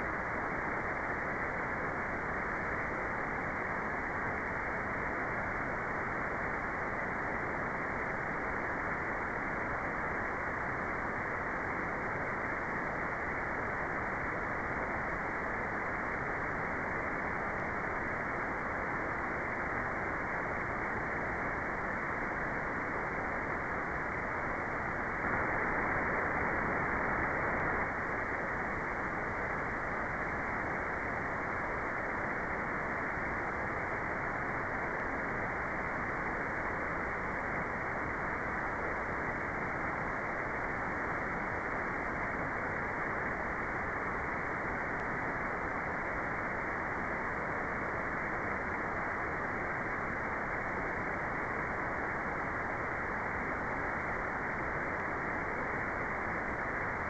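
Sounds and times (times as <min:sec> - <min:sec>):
dull white noise hiss: 0:00.0 - 0:57.0.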